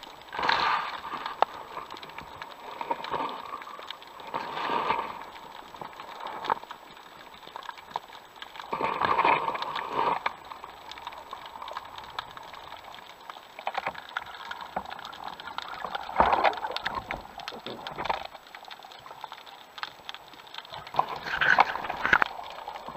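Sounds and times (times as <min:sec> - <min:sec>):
small clicks and crackles: 0:00.0 - 0:22.9
water rushing underwater: 0:00.0 - 0:22.9.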